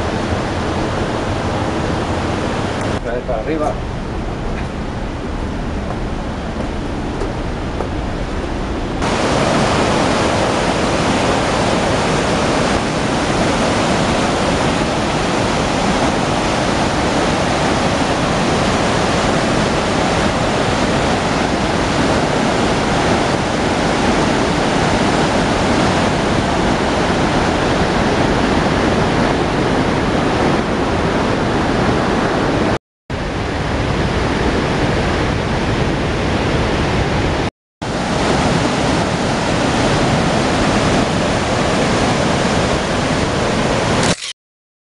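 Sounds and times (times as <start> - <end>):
water rushing over rocks: 0.0 - 30.2, 37.9 - 44.3.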